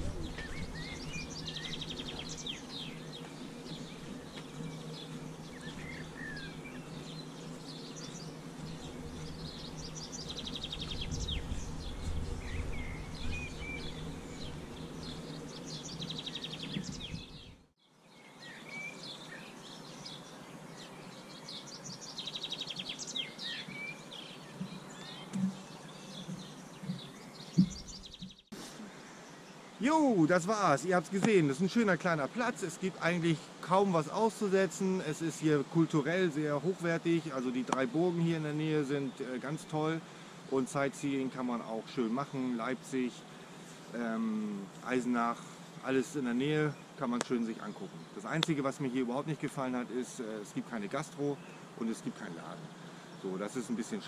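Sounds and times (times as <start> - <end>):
outdoor background noise: 0.0 - 54.0
songbirds singing: 0.0 - 54.0.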